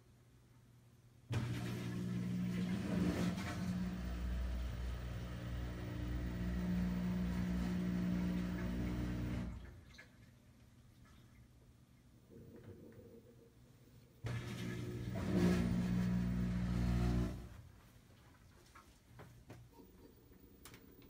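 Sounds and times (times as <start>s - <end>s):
washing machine humming: 1.3s - 11.5s, 14.2s - 21.0s.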